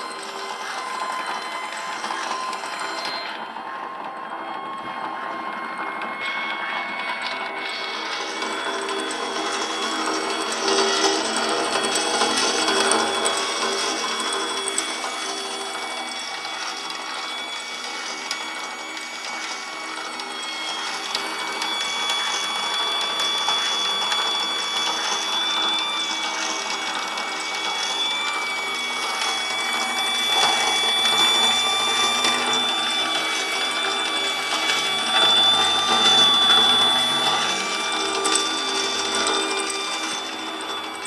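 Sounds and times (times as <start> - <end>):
plastic shredder gear whine: 0.0 - 41.0.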